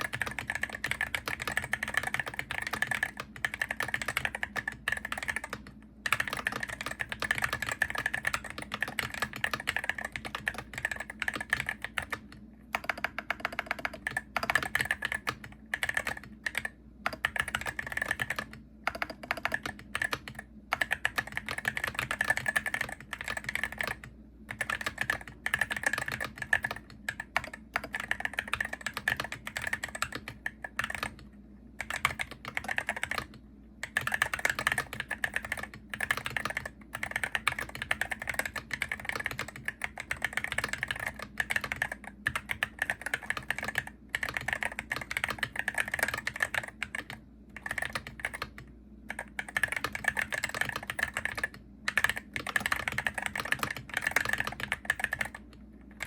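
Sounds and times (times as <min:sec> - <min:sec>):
fast keyboard typing: 0:00.0 - 0:56.0.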